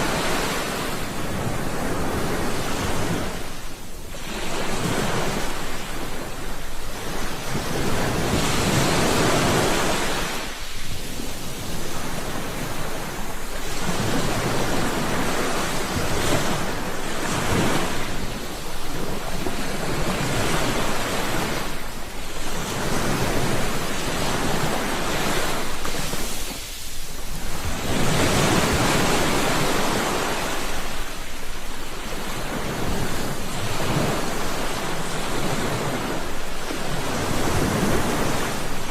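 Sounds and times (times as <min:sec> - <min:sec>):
sea waves breaking: 0:00.0 - 0:38.9.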